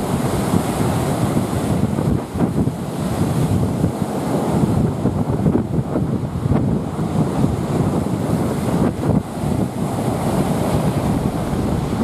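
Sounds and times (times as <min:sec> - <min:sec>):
surf breaking on a beach: 0:00.0 - 0:12.0
wind buffeting the microphone: 0:00.0 - 0:12.0.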